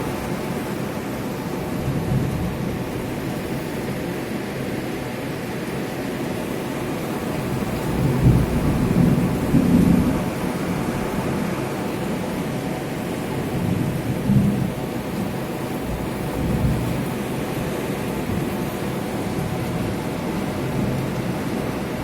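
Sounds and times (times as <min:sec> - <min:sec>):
wind-driven rain hissing: 0:00.0 - 0:22.0.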